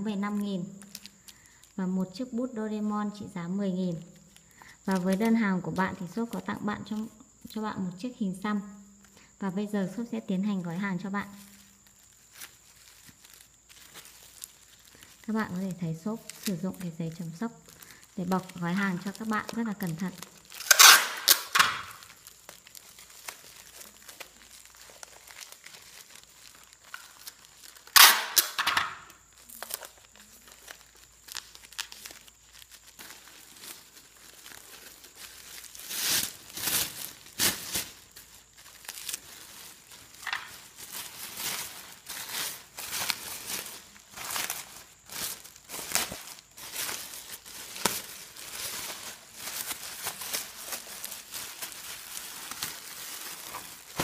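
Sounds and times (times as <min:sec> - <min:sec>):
bubble wrap crinkling: 0:00.0 - 0:54.0.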